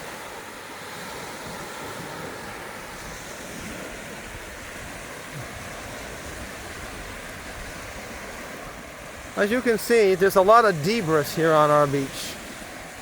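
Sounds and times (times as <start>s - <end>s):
waves breaking on rocky beach: 0.0s - 13.0s
wind on the microphone: 0.0s - 13.0s.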